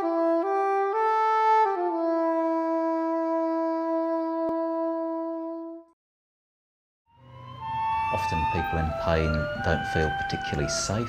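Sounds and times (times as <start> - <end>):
wind instrument melody: 0.0 - 6.0, 7.2 - 11.0.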